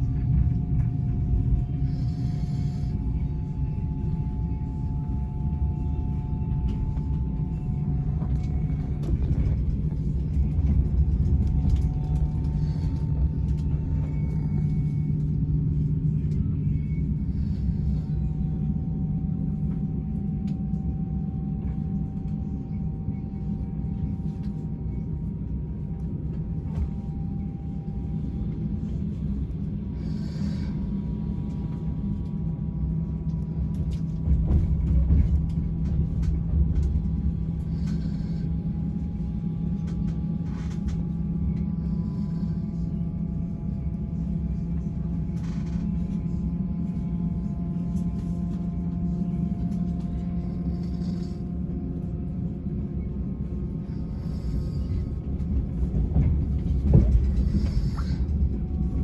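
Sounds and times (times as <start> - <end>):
train rumble from inside carriage: 0.0 - 59.0.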